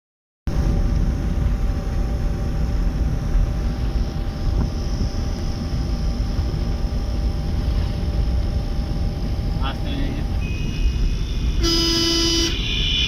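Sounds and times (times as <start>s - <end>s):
car cabin road rumble: 0.5s - 13.0s
faint engine hum: 0.5s - 13.0s.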